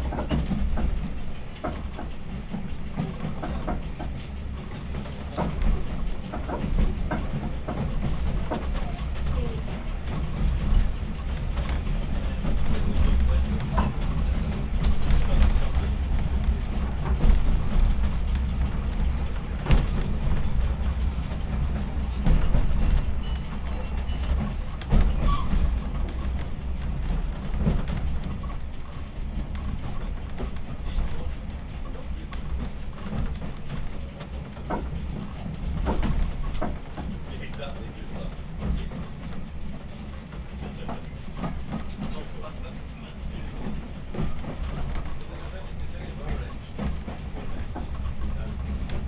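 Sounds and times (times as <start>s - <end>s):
passenger chatter: 0.0s - 49.0s
train carriage rumbling: 0.0s - 49.0s.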